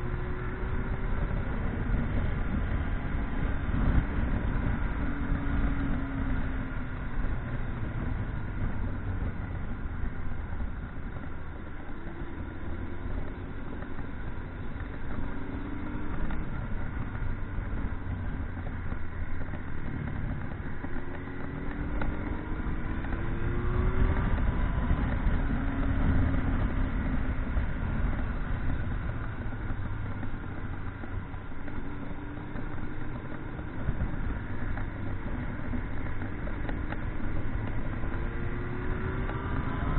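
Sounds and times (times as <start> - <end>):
motorcycle engine: 0.0 - 39.9
wind noise: 0.0 - 39.9.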